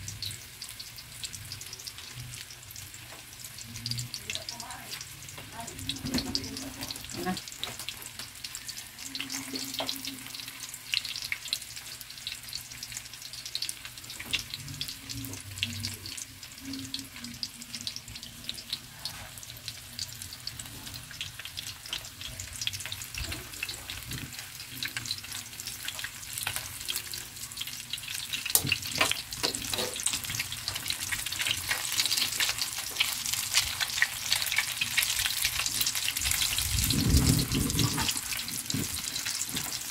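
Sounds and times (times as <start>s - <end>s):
eggplant frying in hot oil: 0.0s - 39.9s.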